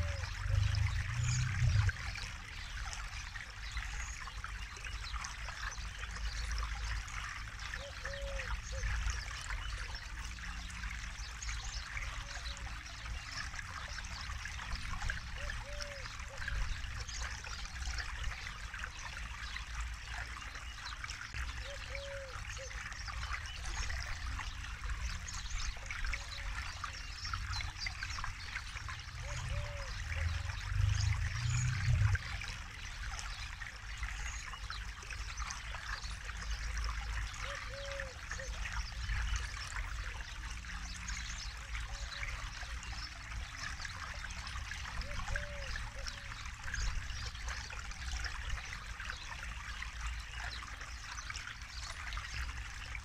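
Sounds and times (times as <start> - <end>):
river flowing over stones: 0.0 - 53.0.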